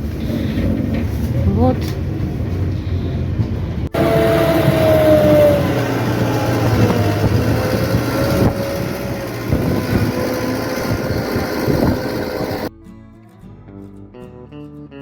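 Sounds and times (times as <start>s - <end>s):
bus drivetrain hum and whine: 0.0s - 12.7s.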